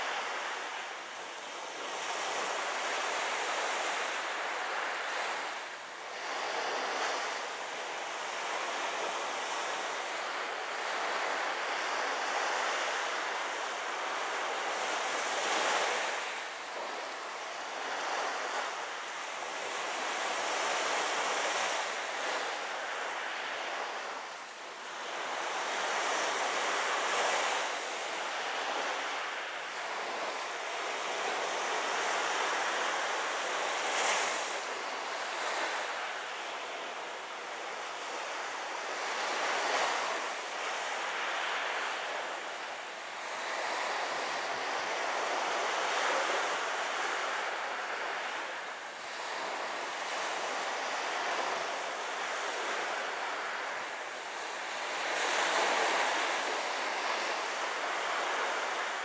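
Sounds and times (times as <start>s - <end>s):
small waves washing on shore: 0.0s - 59.0s.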